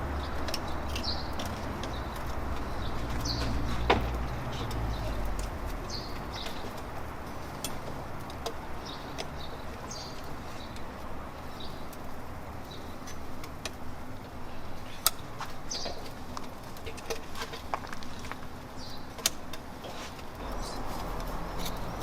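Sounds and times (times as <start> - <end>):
background noise: 0.0 - 22.0
small birds chirping: 0.0 - 22.0.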